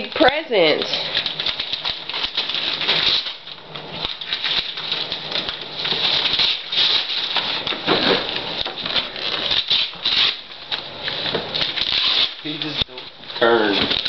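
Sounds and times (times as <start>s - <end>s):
wrapping paper tearing: 0.0s - 14.0s.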